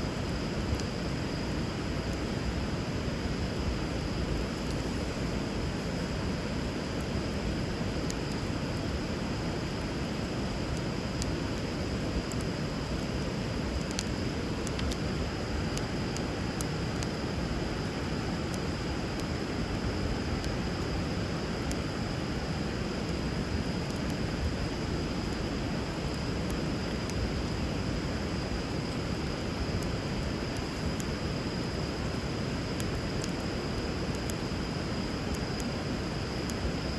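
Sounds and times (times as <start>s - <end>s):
bonfire crackling and popping: 0.1s - 36.9s.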